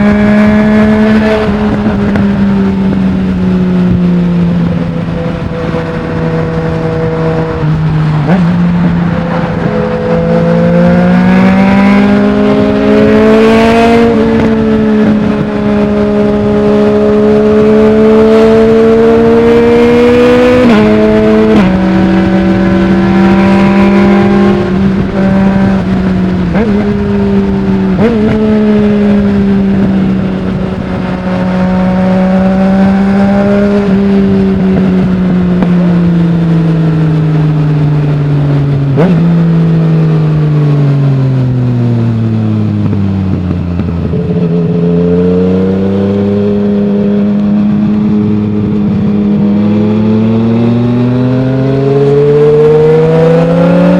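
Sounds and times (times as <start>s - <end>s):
motorcycle engine under throttle: 0.0s - 53.9s.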